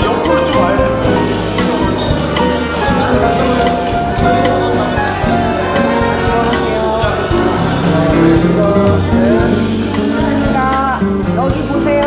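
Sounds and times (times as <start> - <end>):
melody over bass line: 0.0 - 12.0
steady beat: 0.0 - 12.0.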